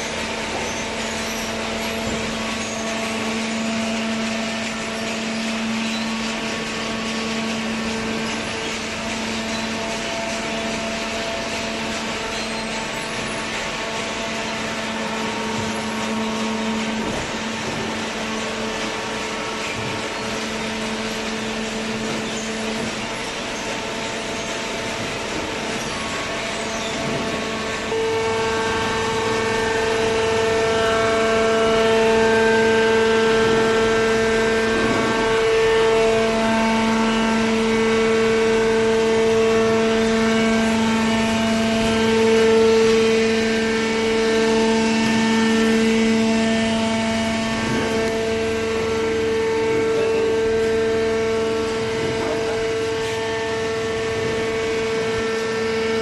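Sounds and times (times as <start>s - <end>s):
baler motor humming and whining: 0.0s - 56.0s.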